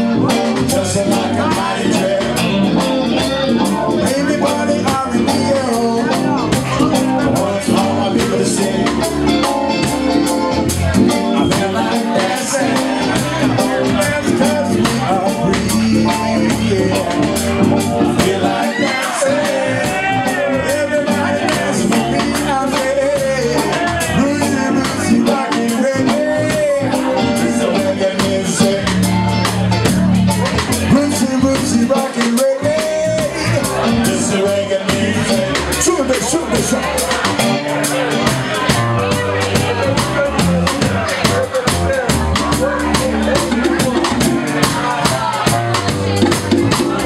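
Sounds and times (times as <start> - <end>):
people singing together: 0.0 - 9.4, 10.7 - 29.0, 30.9 - 38.8, 42.6 - 47.0
bass guitar: 0.0 - 47.0
drum kit: 0.0 - 47.0
electric guitar: 0.0 - 47.0.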